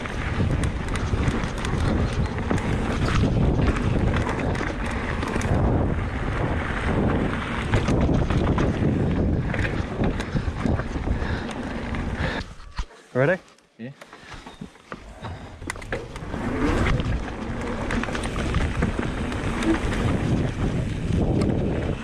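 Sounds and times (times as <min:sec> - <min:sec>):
tyres rumbling on stones: 0:00.0 - 0:12.4, 0:15.1 - 0:22.0
wind buffeting microphone: 0:00.0 - 0:12.6, 0:15.3 - 0:22.0
bike clicks and rattles: 0:00.0 - 0:22.0.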